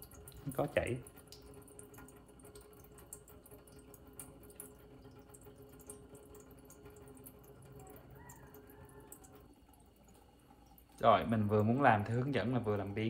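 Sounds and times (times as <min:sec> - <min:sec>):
water trickling and dripping: 0:00.0 - 0:13.0.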